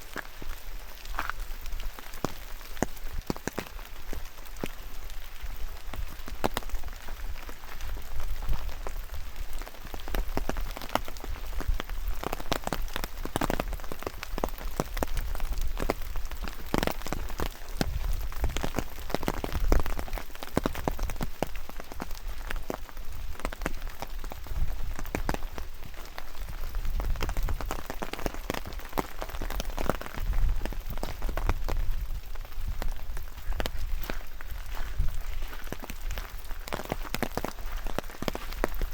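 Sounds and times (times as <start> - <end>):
raindrops tapping: 0.0 - 38.9.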